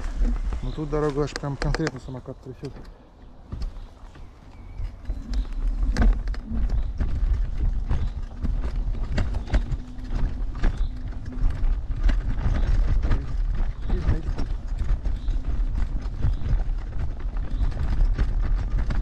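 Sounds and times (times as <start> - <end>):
electric scooter rumbling: 0.0 - 19.0
scooter knocking and rattling: 0.0 - 19.0.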